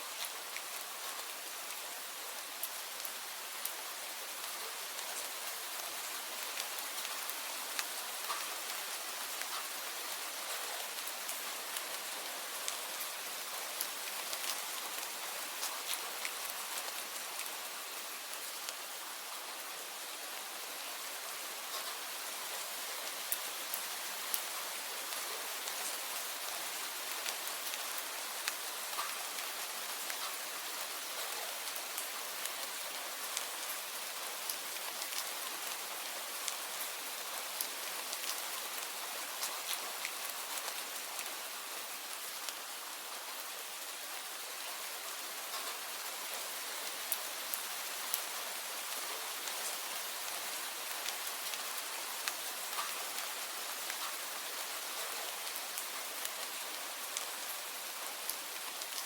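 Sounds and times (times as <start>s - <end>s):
raindrops pattering on a surface: 0.0s - 59.0s
steady rainfall: 0.0s - 59.0s.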